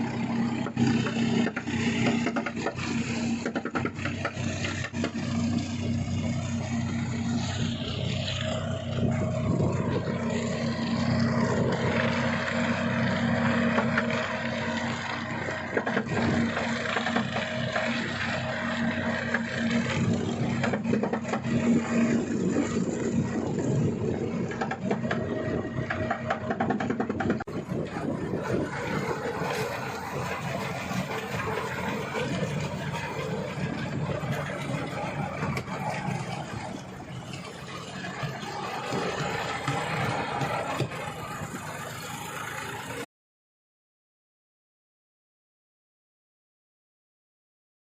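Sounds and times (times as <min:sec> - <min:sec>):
baler mechanical clatter: 0:00.0 - 0:43.0
tractor engine running: 0:00.0 - 0:43.1.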